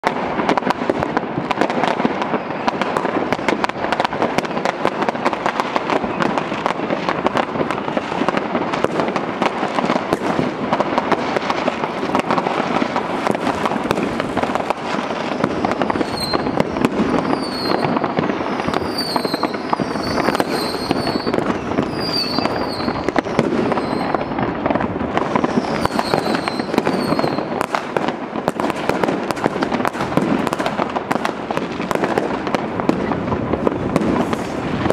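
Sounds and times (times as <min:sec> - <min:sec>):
fireworks bangs and crackles: 0:00.0 - 0:34.9
whistling fireworks: 0:00.0 - 0:34.9.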